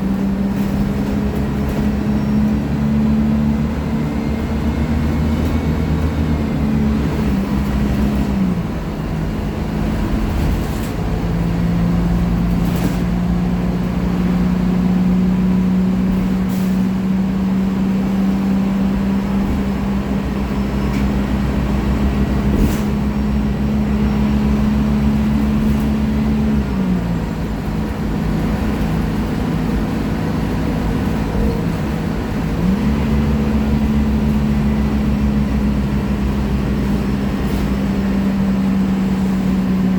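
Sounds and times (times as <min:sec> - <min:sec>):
bus engine running under load: 0:00.0 - 0:39.9.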